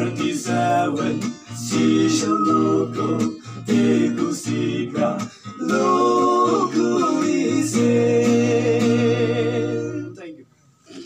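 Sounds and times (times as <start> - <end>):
person singing: 0.0 - 10.2
guitar accompaniment: 0.0 - 11.0.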